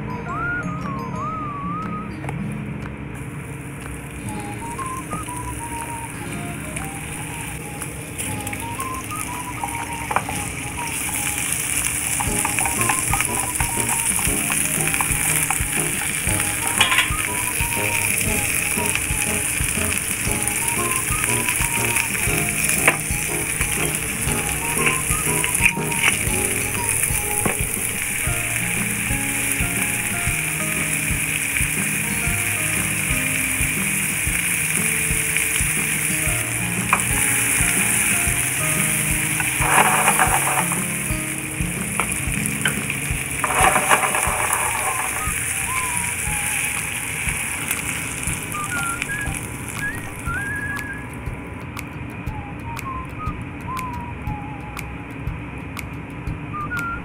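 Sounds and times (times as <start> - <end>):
light background music: 0.0 - 3.5, 4.1 - 57.0
food sizzling in a frying pan: 3.6 - 51.2.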